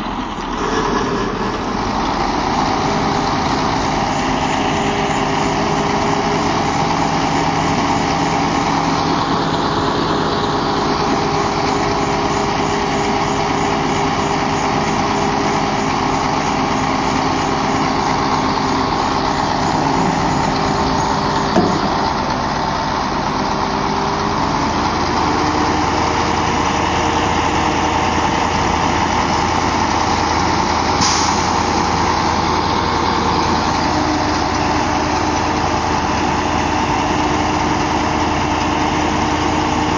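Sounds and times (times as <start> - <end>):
heavy truck engine running: 0.0 - 39.9.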